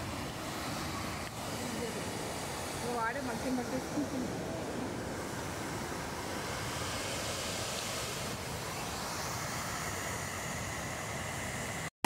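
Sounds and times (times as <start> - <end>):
waterfall and rapids rushing: 0.0 - 11.9.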